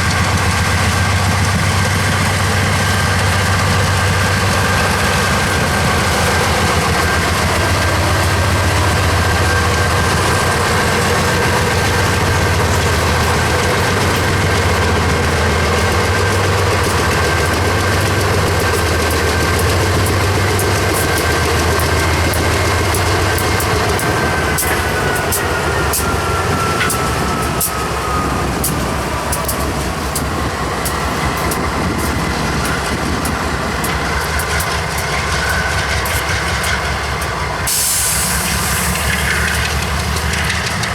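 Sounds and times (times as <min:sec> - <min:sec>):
diesel locomotives running past: 0:00.0 - 0:40.9
wheels clicking over rail joints: 0:00.0 - 0:40.9.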